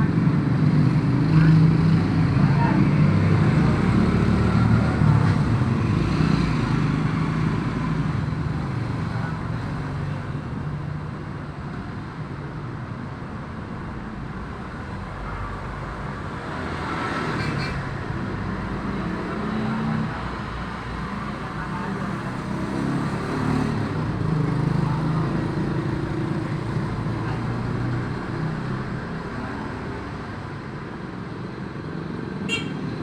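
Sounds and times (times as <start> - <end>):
street traffic noise: 0.0 - 33.0.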